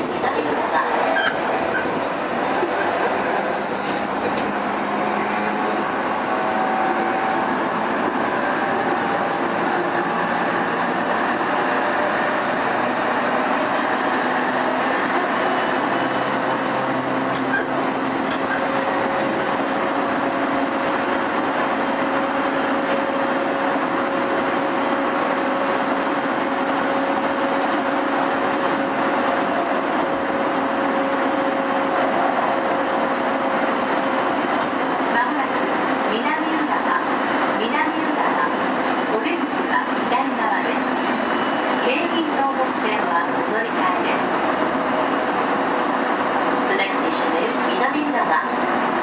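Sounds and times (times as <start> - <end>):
electric train humming: 0.0 - 49.0.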